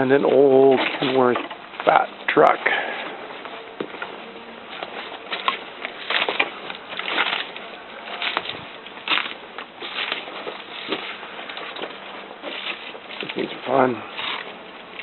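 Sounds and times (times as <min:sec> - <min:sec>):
scuffing or crunching: 0:00.0 - 0:15.0.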